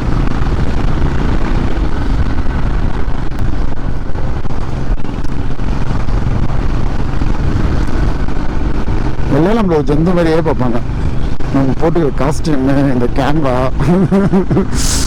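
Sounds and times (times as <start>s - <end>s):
motorcycle engine rumbling: 0.0s - 15.0s
road and wind noise: 0.0s - 15.0s.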